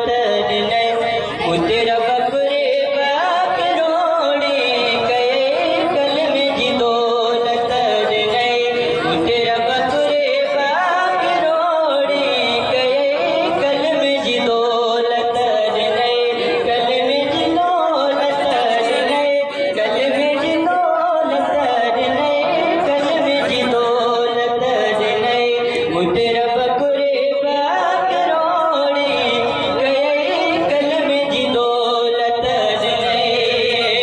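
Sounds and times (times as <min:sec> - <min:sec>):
man singing unaccompanied: 0:00.0 - 0:34.0.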